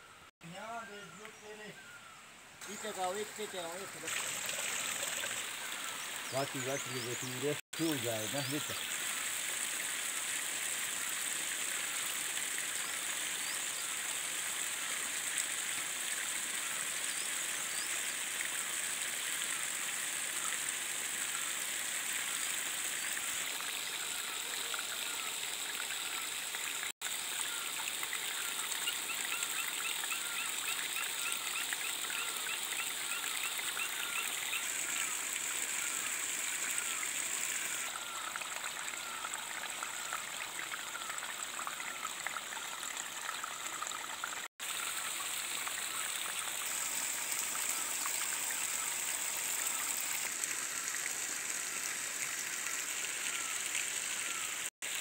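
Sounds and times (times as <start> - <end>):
water pouring over stones: 2.7 - 55.0.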